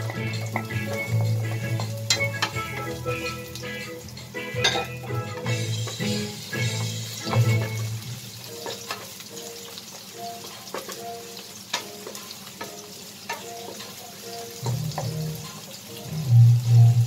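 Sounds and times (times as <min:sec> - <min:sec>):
spatula tapping and scraping pan: 0:00.0 - 0:15.8
garlic and onion sizzling: 0:00.0 - 0:17.0.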